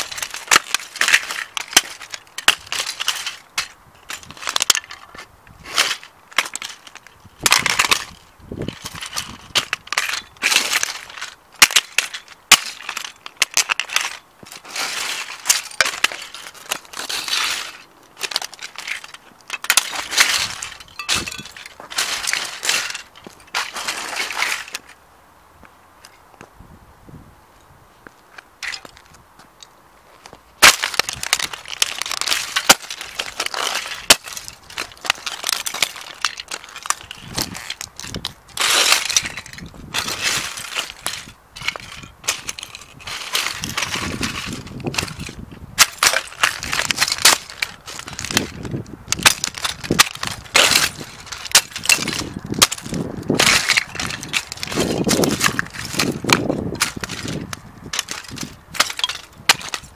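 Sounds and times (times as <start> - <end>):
plastic shards crunching and scraping: 0.0 - 25.0, 28.6 - 29.0, 30.2 - 59.9
boots stamping on plastic: 5.7 - 24.8, 30.2 - 59.9.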